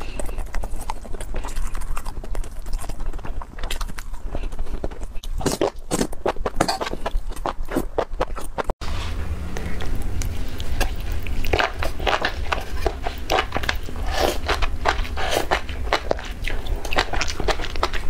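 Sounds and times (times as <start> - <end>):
wet crunchy chewing: 0.0 - 8.8, 9.5 - 18.0
steady low hum: 0.0 - 18.0.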